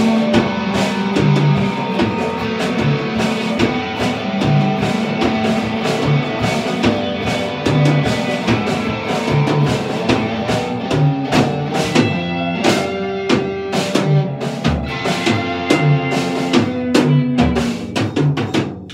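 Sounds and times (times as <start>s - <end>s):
electric guitars playing: 0.0s - 18.4s.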